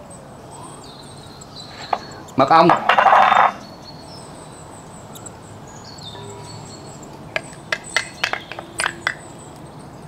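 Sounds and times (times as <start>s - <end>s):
birds and insects chirping: 0.0s - 10.0s.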